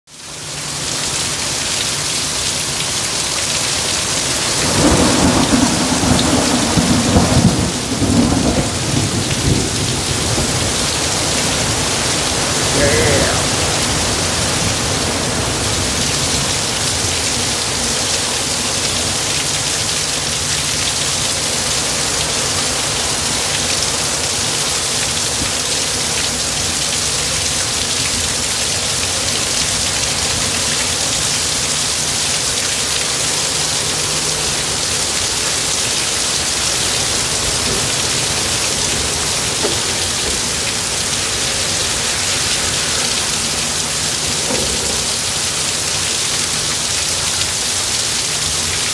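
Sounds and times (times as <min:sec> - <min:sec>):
heavy rain: 0:00.1 - 0:48.9.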